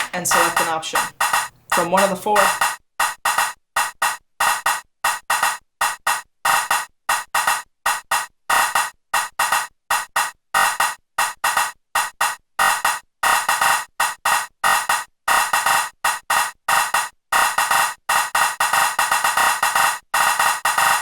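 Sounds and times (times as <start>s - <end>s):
drum synthesizer pattern: 0.0s - 21.0s.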